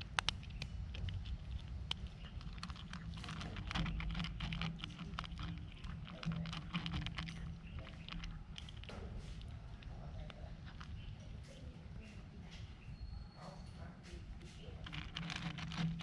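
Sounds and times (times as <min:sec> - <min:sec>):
cat chewing and lapping: 0:00.0 - 0:12.6, 0:13.9 - 0:16.0.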